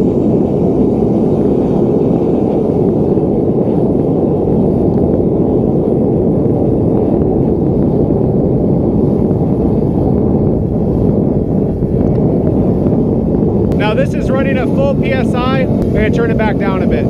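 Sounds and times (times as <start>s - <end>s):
gas burner roaring: 0.0s - 17.0s.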